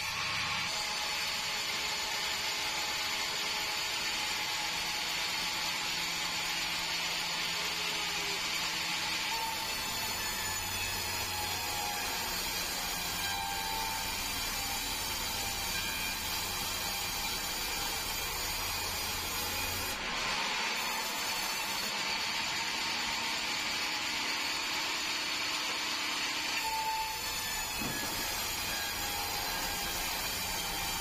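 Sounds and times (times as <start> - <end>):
sawmill saw cutting timber: 0.0 - 31.0.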